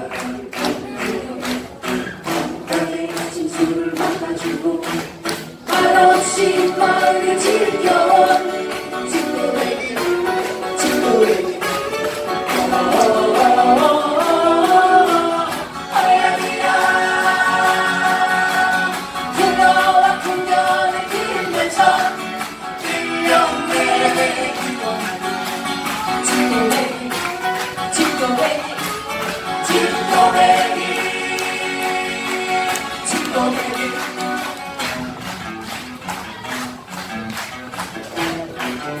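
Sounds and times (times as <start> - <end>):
group singing in chorus: 0.0 - 34.7
acoustic guitars strumming: 0.0 - 39.0.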